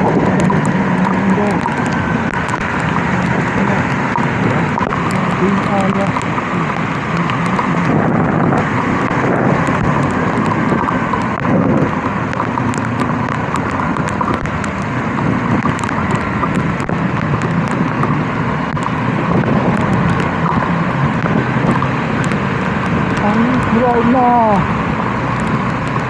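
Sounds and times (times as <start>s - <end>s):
motorcycle engine hum: 0.0s - 26.0s
raindrops ticking: 0.0s - 26.0s
wind and rain rushing: 0.0s - 26.0s.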